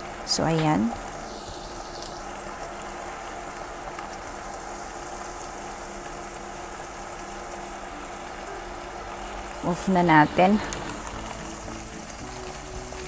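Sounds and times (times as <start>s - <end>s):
faint crackles: 0.0s - 13.0s
faint steady hum: 0.0s - 13.0s
sauce bubbling in a wok: 1.0s - 9.6s, 10.6s - 13.0s.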